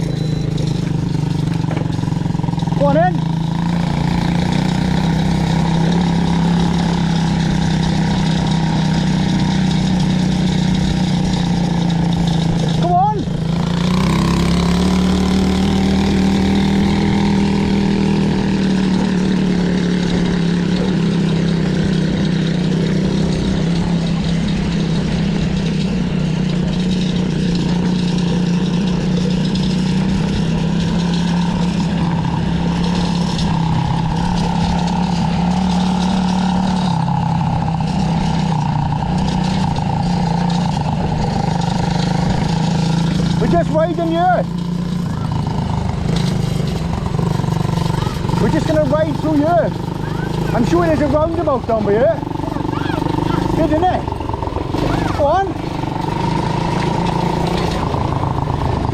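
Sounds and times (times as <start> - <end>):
quad bike motor running: 0.0 - 58.9.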